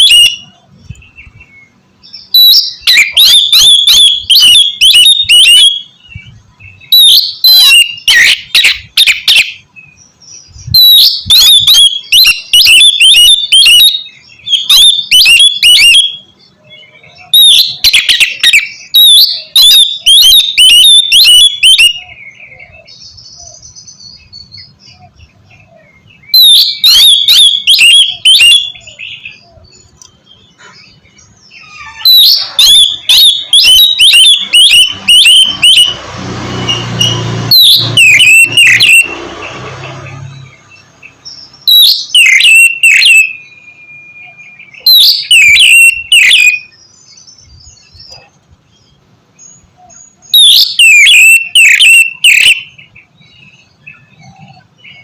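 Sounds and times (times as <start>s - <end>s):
magpie-robin singing: 0.0s - 36.0s, 36.6s - 55.0s.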